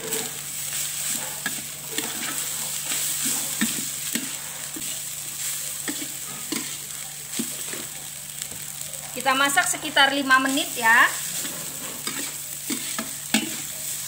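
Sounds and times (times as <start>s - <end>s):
spatula scraping a wok: 0.0s - 7.9s, 10.4s - 14.0s
rice sizzling in a wok: 0.0s - 14.0s.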